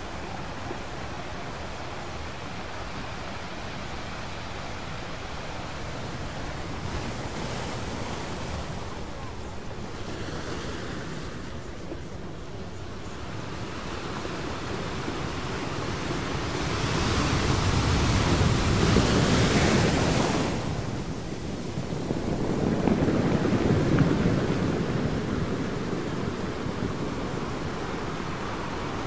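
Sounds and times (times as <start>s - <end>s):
ocean waves washing on shore: 0.0s - 29.0s.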